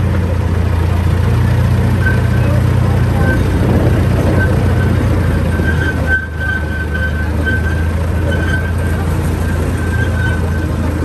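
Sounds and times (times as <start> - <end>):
low engine drone: 0.0 - 11.0
rolling rail noise: 0.0 - 11.0
short high squeaks: 1.9 - 11.0.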